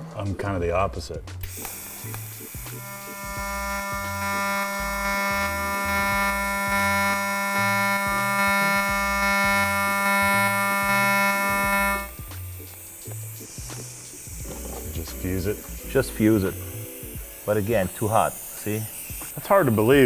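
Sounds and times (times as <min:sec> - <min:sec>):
welding arc buzzing: 0:01.4 - 0:20.0.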